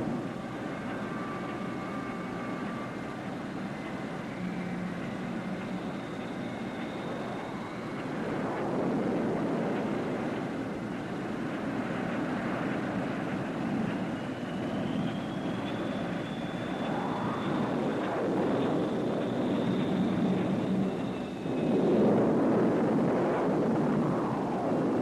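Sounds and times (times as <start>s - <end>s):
high whistling whine: 0.0s - 25.0s
jet engines roaring: 0.0s - 25.0s.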